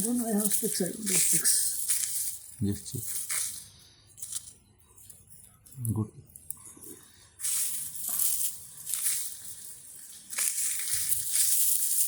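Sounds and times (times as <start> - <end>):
biochar crumbled by hand: 0.0 - 12.0.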